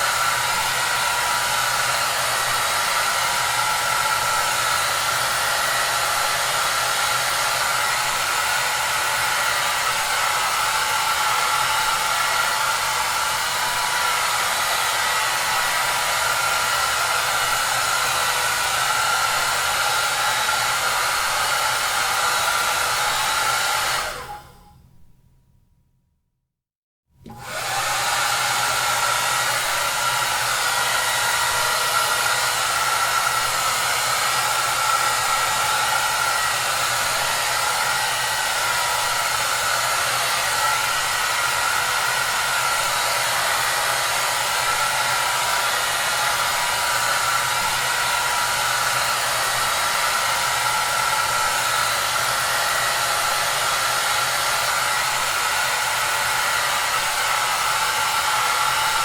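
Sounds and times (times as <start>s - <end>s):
hair dryer running: 0.0s - 24.7s, 27.2s - 59.0s.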